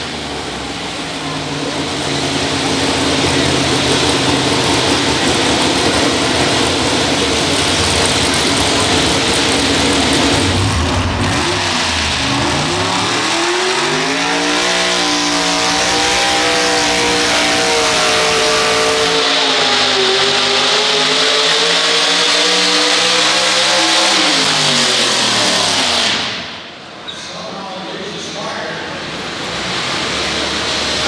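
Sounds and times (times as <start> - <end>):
tractor engine at full throttle: 0.0 - 26.8, 29.1 - 31.0.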